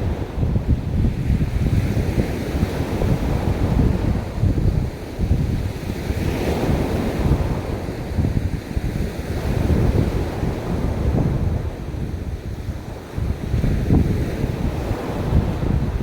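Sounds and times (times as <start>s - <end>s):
sea waves washing on beach: 0.0s - 16.0s
wind buffeting microphone: 0.0s - 16.0s.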